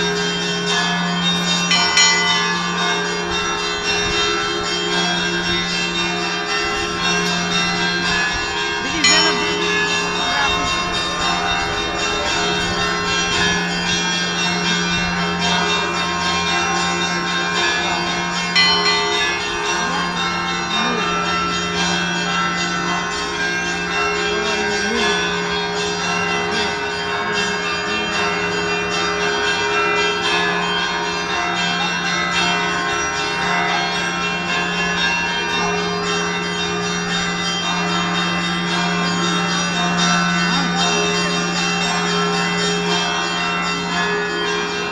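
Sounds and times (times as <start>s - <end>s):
church bells ringing together: 0.0s - 44.9s
low bell hum: 0.0s - 44.9s.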